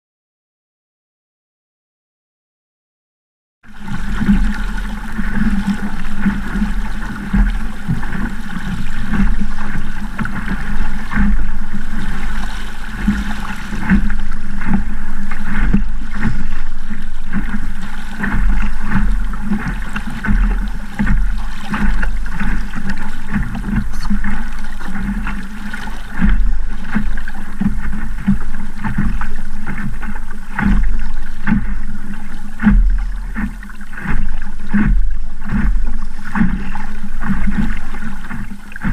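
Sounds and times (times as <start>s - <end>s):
water splashing against hull: 3.7s - 38.9s.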